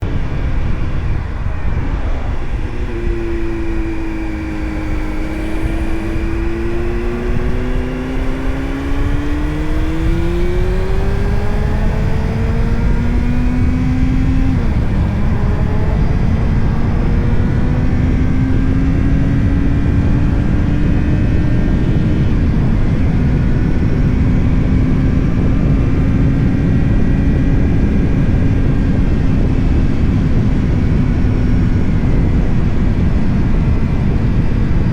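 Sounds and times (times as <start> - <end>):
motorcycle engine: 0.0 - 34.9
wind and road noise rumble: 0.0 - 34.9.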